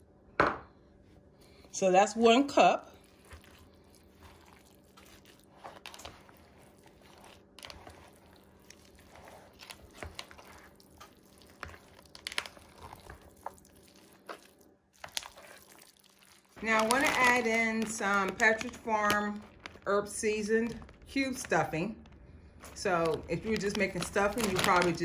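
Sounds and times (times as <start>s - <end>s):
spoon stirring thick mixture: 2.5s - 25.0s.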